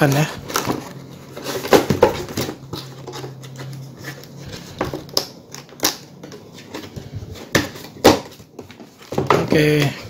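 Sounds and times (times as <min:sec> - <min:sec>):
cardboard scraping and rustling: 0:00.0 - 0:10.0.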